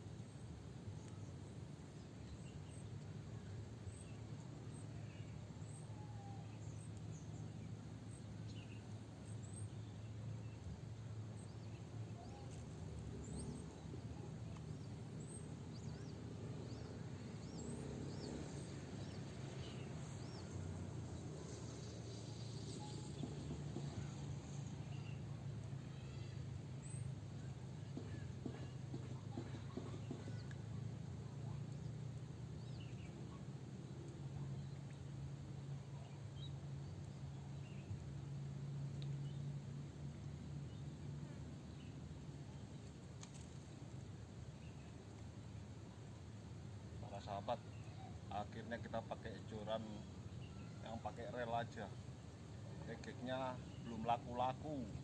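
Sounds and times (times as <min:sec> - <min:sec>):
low background noise: 0:00.0 - 0:55.0
small birds chirping: 0:00.1 - 0:55.0.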